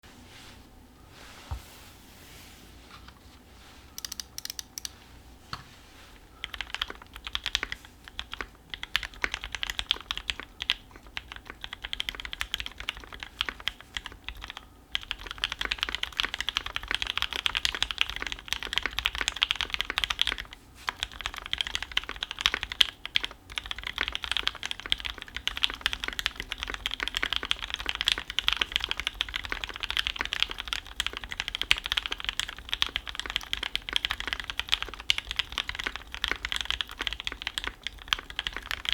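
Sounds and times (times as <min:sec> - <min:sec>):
low computer hum: 0:00.0 - 0:38.9
mechanical keyboard typing: 0:04.0 - 0:04.9, 0:06.4 - 0:38.9.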